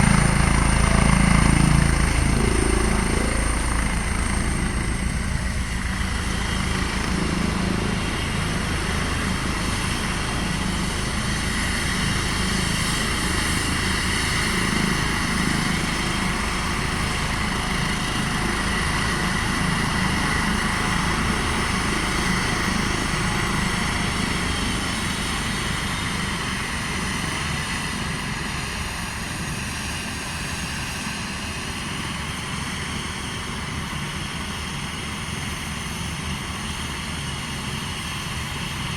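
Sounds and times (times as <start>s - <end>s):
helicopter rotor noise: 0.0s - 38.9s
helicopter turbine whine: 0.0s - 38.9s.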